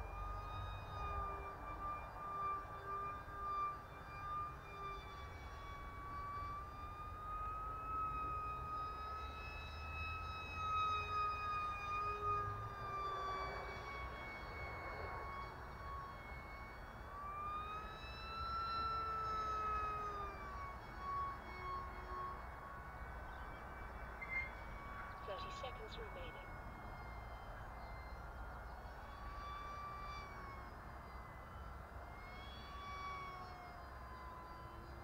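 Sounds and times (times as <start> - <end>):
model jet fan whine: 0.0 - 35.0.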